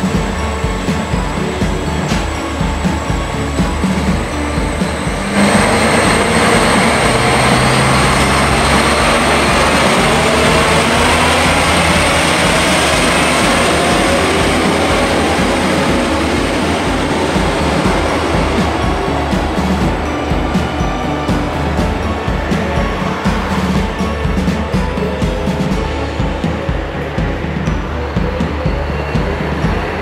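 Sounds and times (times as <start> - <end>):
diesel locomotive engine running: 0.0 - 30.0
wheels rolling on rails: 0.0 - 30.0.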